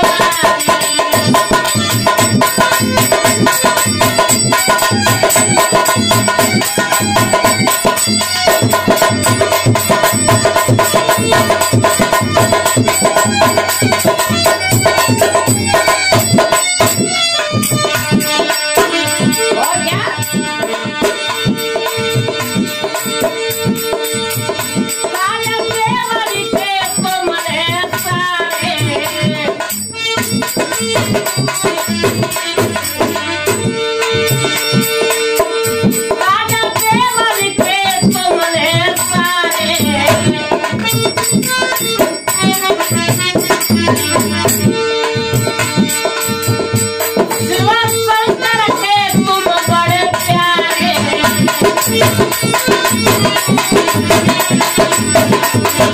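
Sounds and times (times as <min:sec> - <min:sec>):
hand drum steady beat: 0:00.0 - 0:55.9
harmonium playing chords: 0:00.0 - 0:55.9.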